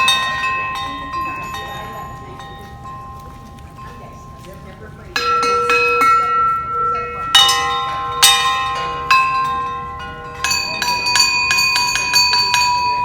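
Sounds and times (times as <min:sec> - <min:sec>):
hanging bells ringing: 0:00.0 - 0:13.0.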